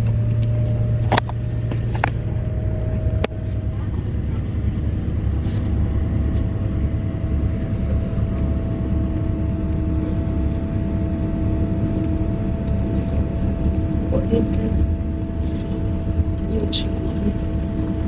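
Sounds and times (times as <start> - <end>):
bus engine rumbling: 0.0 - 18.0
thin steady whine: 0.0 - 18.0.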